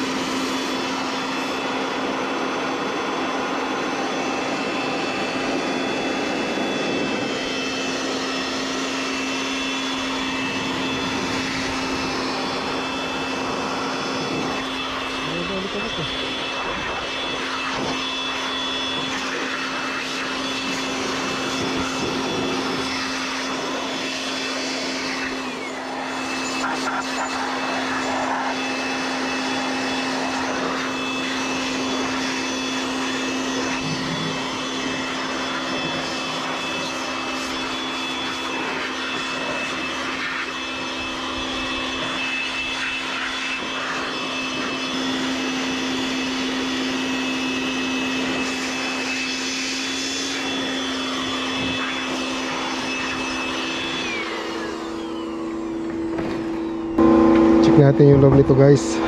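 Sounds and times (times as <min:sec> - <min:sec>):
fan machinery whirring: 0:00.0 - 0:59.0.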